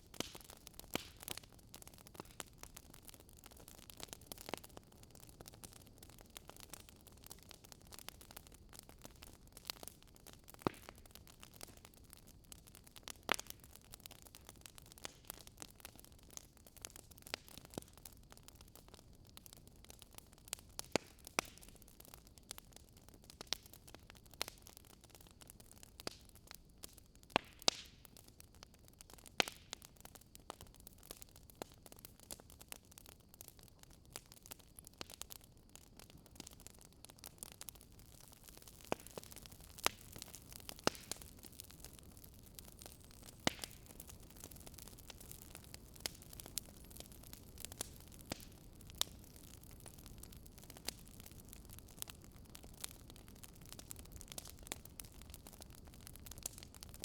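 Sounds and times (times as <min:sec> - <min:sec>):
faint steady hiss: 0:00.0 - 0:57.0
wood fire crackling: 0:00.0 - 0:57.0.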